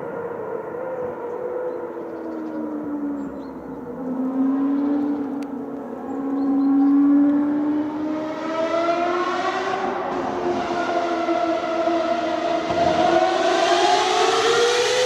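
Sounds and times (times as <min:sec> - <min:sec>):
distant racing car engine: 0:00.0 - 0:15.0.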